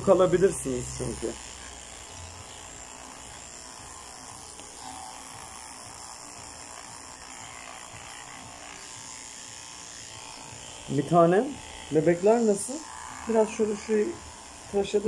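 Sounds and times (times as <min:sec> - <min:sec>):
electric clippers buzzing: 0:00.0 - 0:15.0.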